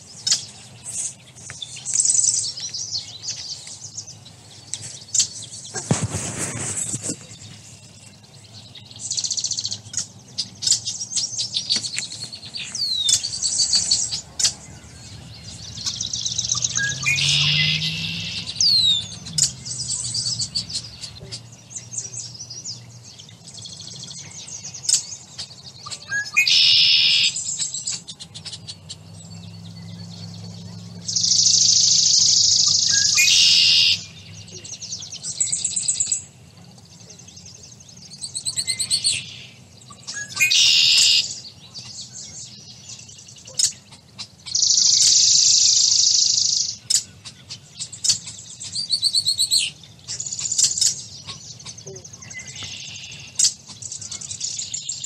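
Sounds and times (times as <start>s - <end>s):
bird chirps: 0.0s - 55.0s
songbirds trilling: 0.0s - 55.0s.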